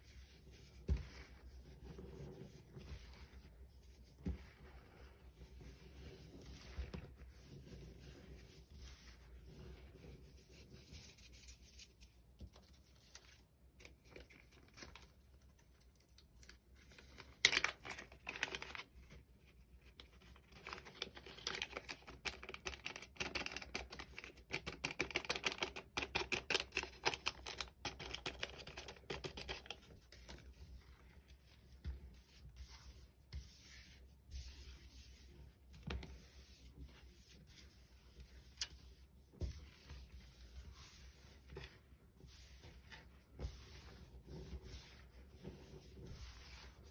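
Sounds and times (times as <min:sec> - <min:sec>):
rubbing powder: 0:00.0 - 0:13.6, 0:16.6 - 0:46.9.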